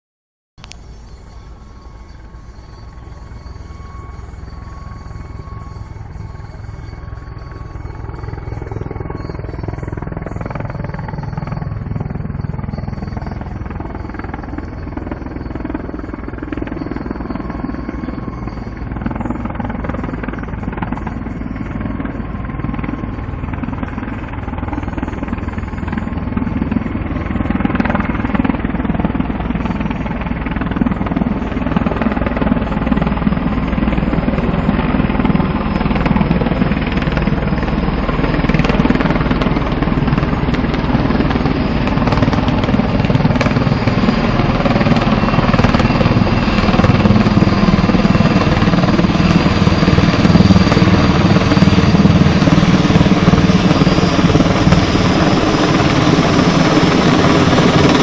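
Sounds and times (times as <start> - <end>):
helicopter rotor chop and engine: 0.6 - 58.0.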